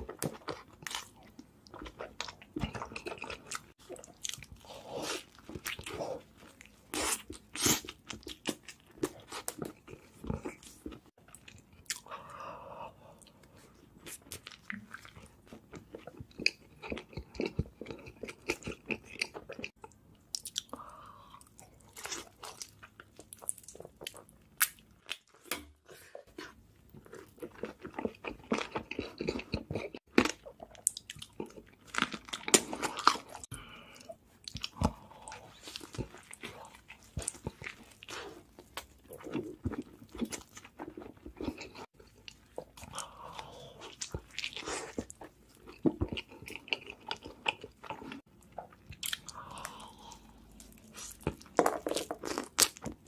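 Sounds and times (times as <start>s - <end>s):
chewing and crunching fried food: 0.0s - 25.4s, 26.1s - 53.0s.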